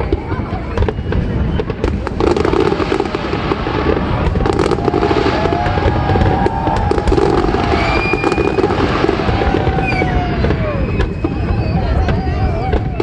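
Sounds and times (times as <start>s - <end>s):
fireworks crackling and popping: 0.0s - 13.0s
whistling fireworks: 0.0s - 13.0s.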